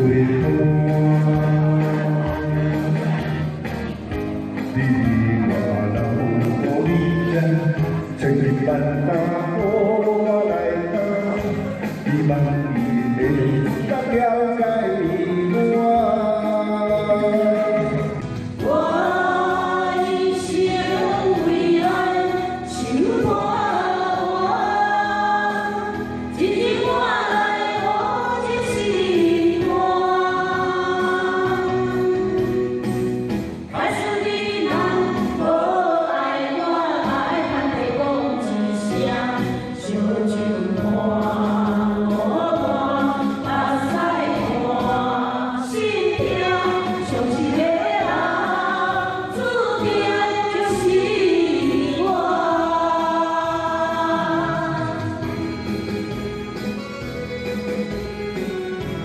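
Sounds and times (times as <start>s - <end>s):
group singing in unison: 0.0s - 3.9s, 4.6s - 56.3s
pop backing track: 0.0s - 59.0s.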